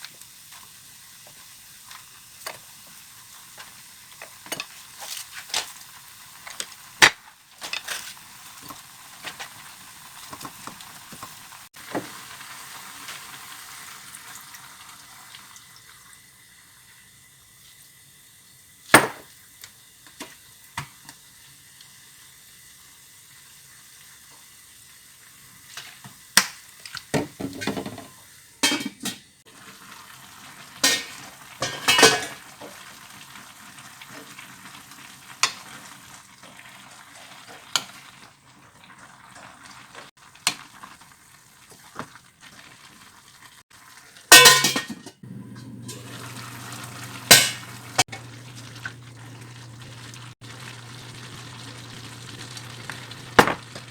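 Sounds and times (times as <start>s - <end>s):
food sizzling in a frying pan: 0.0s - 53.9s.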